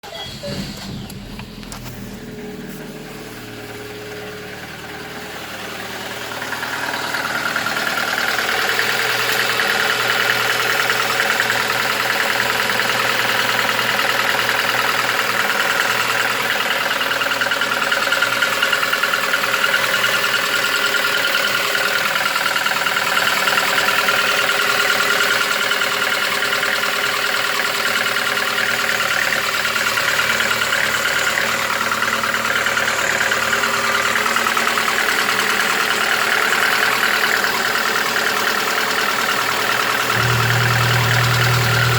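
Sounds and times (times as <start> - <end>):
engine idling with knock: 0.2 - 41.9.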